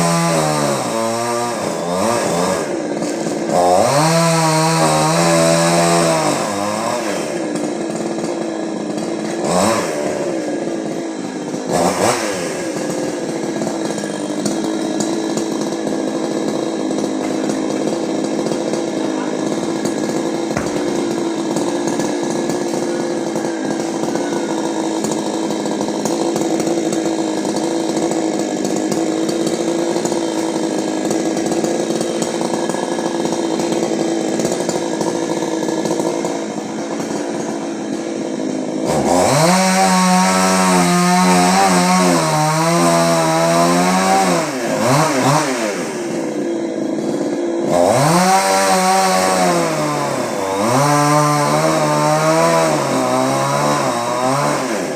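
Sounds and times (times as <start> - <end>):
chainsaw running and revving: 0.0 - 54.9.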